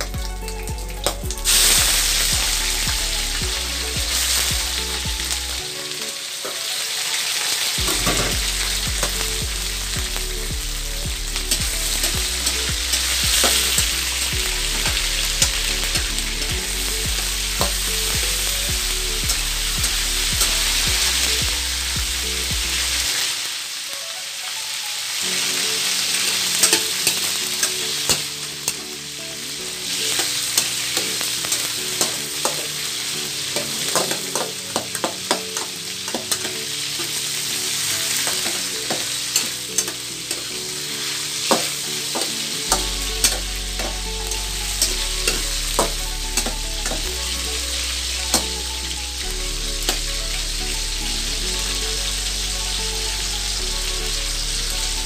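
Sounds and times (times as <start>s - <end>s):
metal ladle scraping wok: 0.0s - 6.1s, 7.8s - 23.3s, 25.2s - 55.0s
meat sizzling in hot oil: 0.7s - 55.0s.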